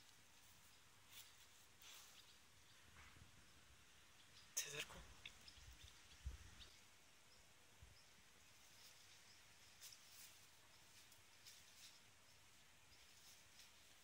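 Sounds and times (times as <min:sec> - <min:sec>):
faint bird chirps: 0:00.4 - 0:14.0.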